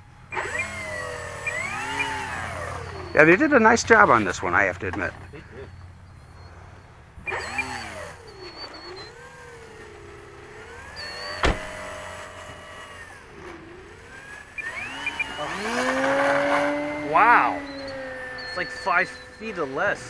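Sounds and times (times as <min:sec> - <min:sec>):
electric model plane motor whining: 0:00.0 - 0:20.0.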